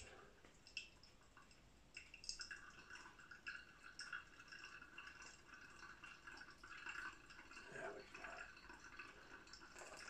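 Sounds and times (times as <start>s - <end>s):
water drips: 0.0s - 10.0s.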